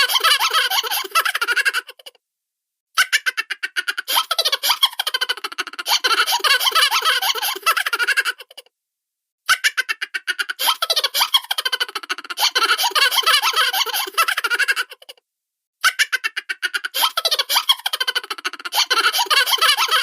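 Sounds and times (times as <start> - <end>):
cartoon-style giggling: 0.0 - 2.2, 3.0 - 8.7, 9.5 - 15.2, 15.8 - 20.0.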